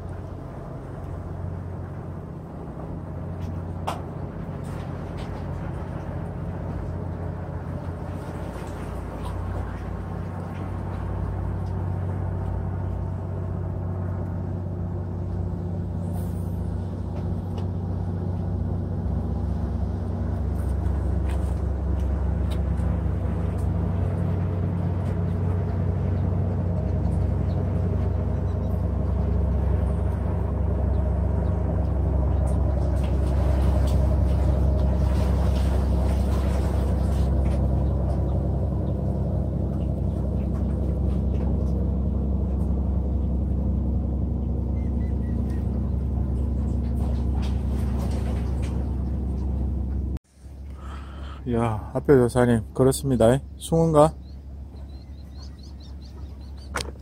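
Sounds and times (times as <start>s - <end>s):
low engine rumble: 0.0s - 57.0s.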